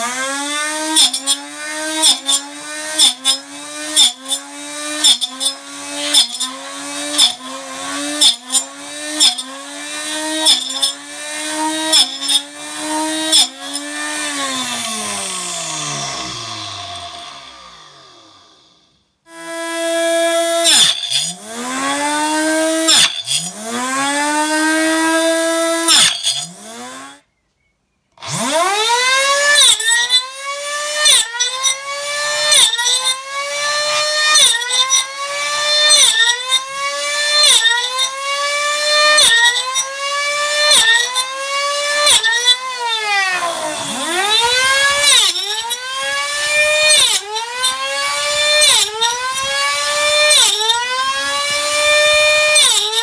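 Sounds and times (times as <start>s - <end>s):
saw blade cutting wood: 0.0s - 27.2s, 28.2s - 53.0s
chop saw motor whining: 0.0s - 27.3s, 28.1s - 53.0s.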